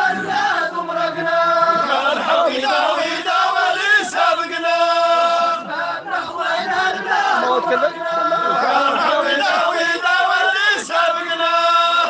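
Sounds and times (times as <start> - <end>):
voices chanting in unison: 0.0 - 12.0.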